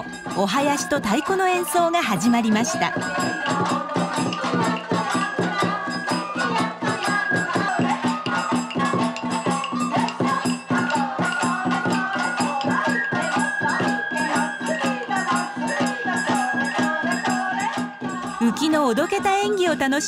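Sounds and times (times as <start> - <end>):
taiko drums fast rhythm: 0.0 - 19.6
bell: 0.0 - 20.0
flute: 0.0 - 20.0.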